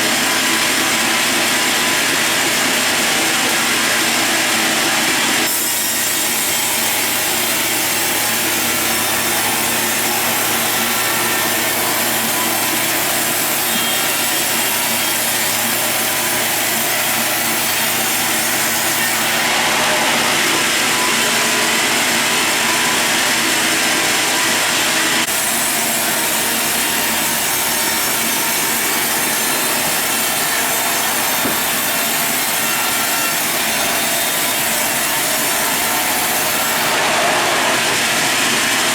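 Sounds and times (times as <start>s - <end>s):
sawmill saw cutting log: 0.0s - 38.9s.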